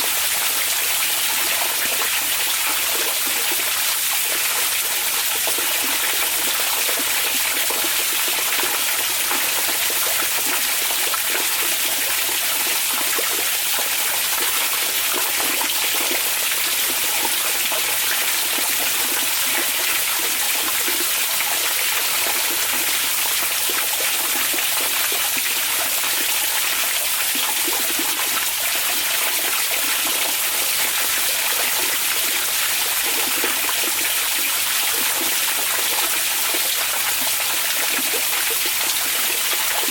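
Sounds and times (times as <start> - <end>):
hot spring water running: 0.0 - 39.9.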